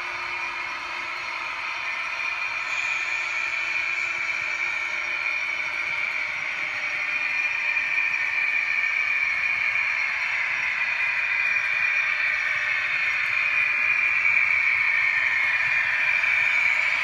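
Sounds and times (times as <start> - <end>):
model train whirring on track: 0.0 - 17.0.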